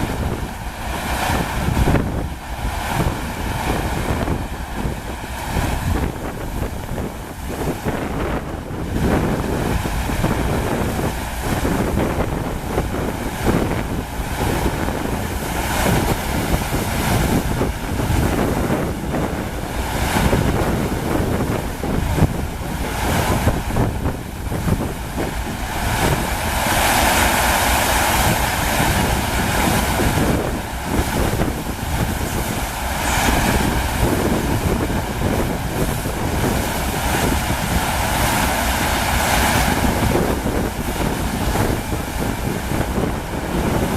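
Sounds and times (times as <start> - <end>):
rushing water: 0.0 - 43.9
wind buffeting microphone: 0.0 - 43.9.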